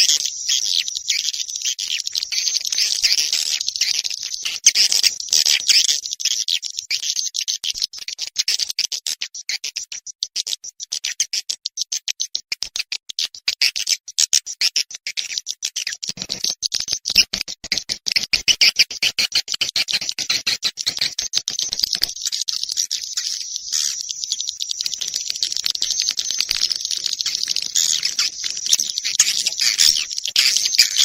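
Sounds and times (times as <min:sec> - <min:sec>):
high bird chittering and clicks: 0:00.0 - 0:31.0.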